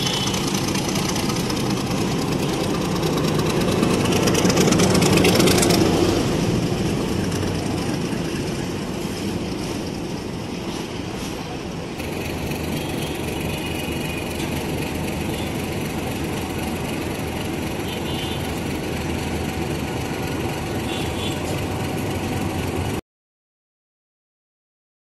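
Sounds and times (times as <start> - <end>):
diesel locomotive engine running: 0.0 - 23.0.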